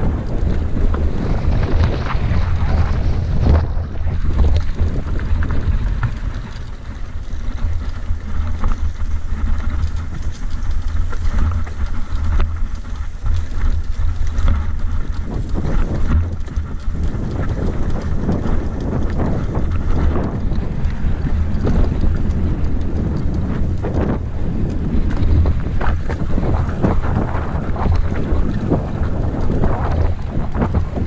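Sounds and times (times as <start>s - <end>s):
bike rattling over stones: 0.0s - 31.0s
wind rumble on microphone: 0.0s - 31.0s.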